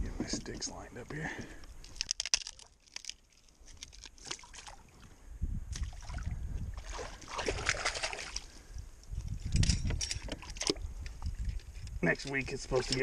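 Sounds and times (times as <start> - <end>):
water splashing and sloshing: 1.8 - 13.0.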